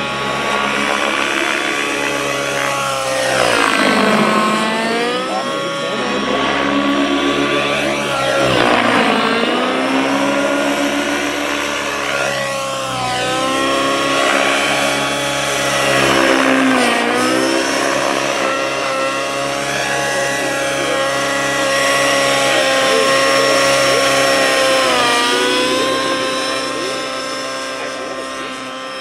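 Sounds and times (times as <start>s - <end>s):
model helicopter motor whine: 0.0s - 29.0s.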